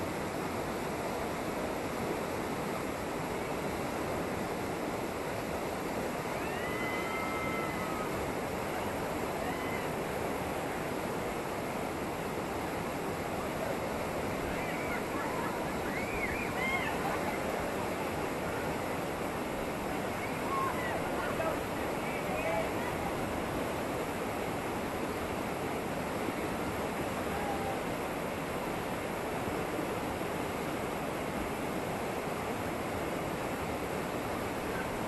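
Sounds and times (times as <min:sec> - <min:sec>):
whitewater rapids roaring: 0:00.0 - 0:35.0.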